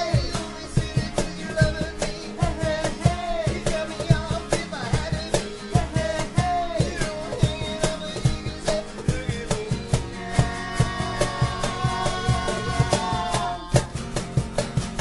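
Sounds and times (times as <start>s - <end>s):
person singing: 0.0s - 14.0s
acoustic guitars strummed: 0.0s - 15.0s
low thumping beat: 0.0s - 15.0s.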